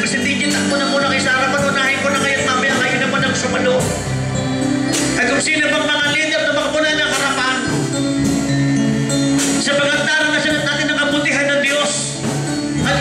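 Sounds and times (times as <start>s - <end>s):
instrumental backing: 0.0s - 13.0s.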